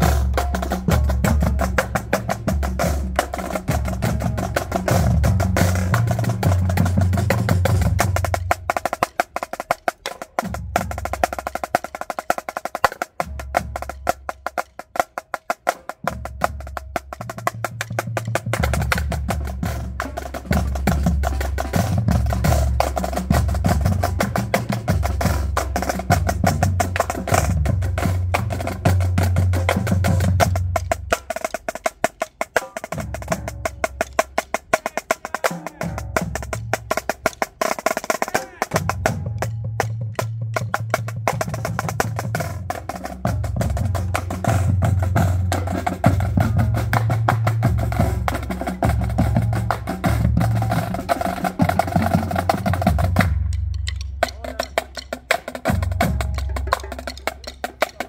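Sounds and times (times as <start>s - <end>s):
bass drums: 0.0s - 58.0s
snare drum strokes and rolls: 0.0s - 58.0s.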